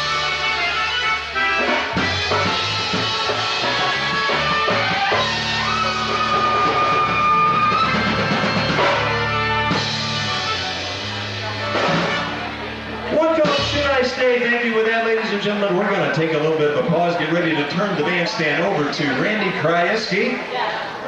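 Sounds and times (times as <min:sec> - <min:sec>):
live band playing: 0:00.0 - 0:19.6.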